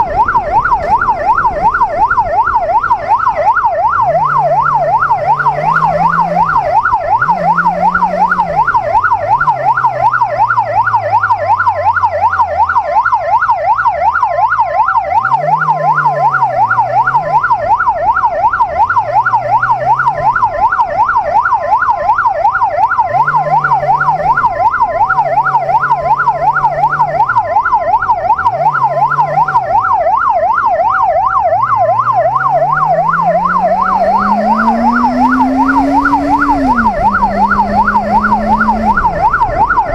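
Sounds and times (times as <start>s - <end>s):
fast yelp siren: 0.0s - 39.9s
two-tone hi-lo siren: 0.0s - 39.9s
motorcycle engine revving: 0.1s - 12.5s, 15.0s - 39.9s.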